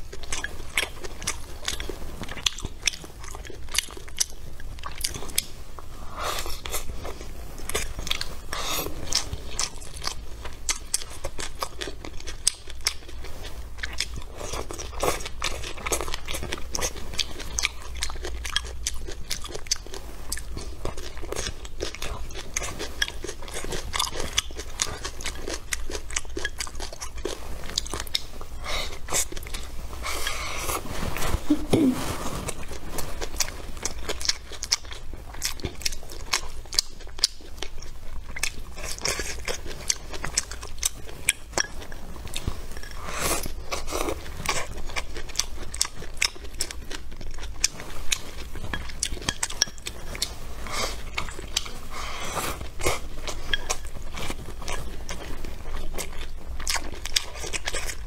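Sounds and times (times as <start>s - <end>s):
chewing food: 0.0s - 58.0s.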